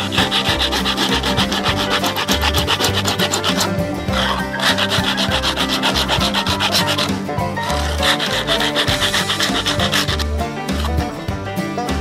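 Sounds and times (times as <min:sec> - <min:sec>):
tin can scraping on rock: 0:00.0 - 0:11.3
background music: 0:00.0 - 0:12.0.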